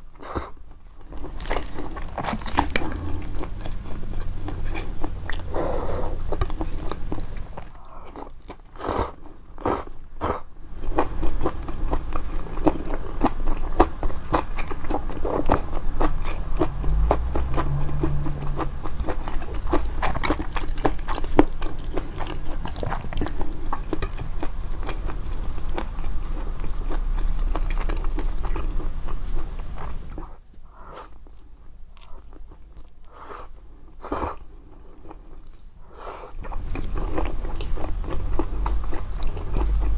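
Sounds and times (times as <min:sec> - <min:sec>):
amplified chewing: 0:00.1 - 0:30.4, 0:31.0 - 0:39.9.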